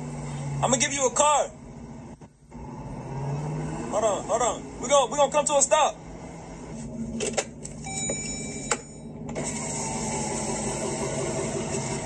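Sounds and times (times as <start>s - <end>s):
engine and road noise: 0.0s - 12.0s.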